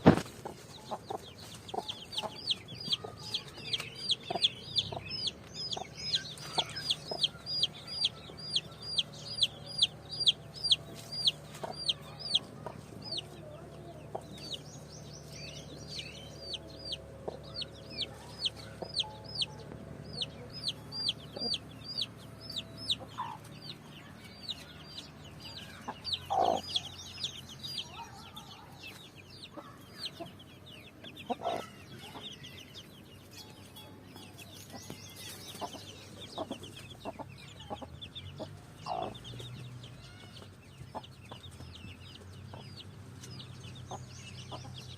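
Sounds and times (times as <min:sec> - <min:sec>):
chicks peeping: 0:00.0 - 0:44.9
hen clucking: 0:00.1 - 0:14.6, 0:16.3 - 0:32.6, 0:33.8 - 0:41.6, 0:43.8 - 0:44.9.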